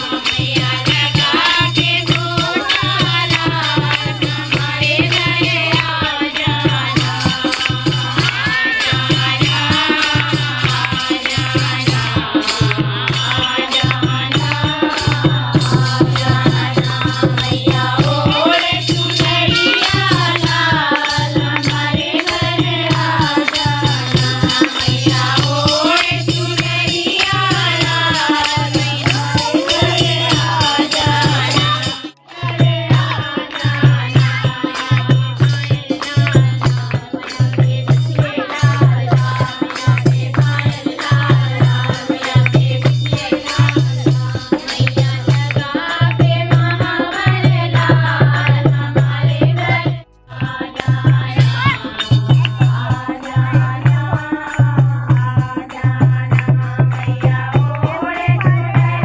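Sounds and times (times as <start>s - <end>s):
hand-clapping: 0.0s - 48.7s, 50.4s - 59.0s
women singing together: 0.0s - 59.0s.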